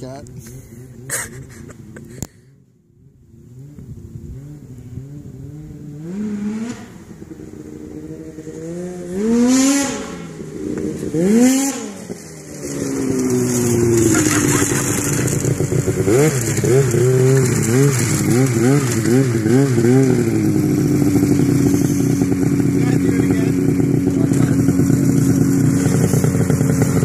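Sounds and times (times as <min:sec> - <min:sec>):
snowmobile engine revving: 0:00.3 - 0:02.3, 0:03.2 - 0:27.0.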